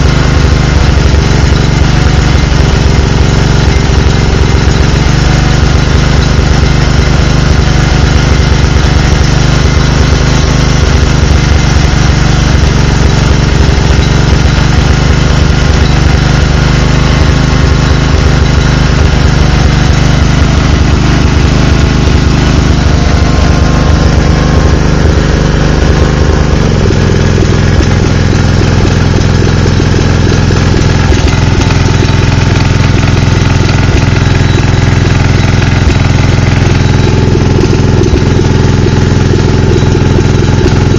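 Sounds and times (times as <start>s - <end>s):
generator engine running unevenly: 0.0s - 40.9s.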